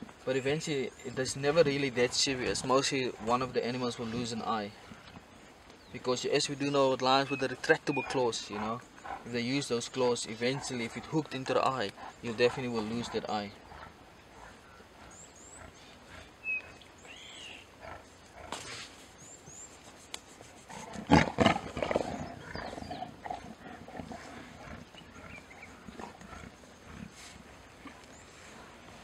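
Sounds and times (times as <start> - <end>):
small birds chirping: 0.0 - 29.0
lions growling: 1.0 - 5.0, 7.8 - 18.9, 20.6 - 29.0.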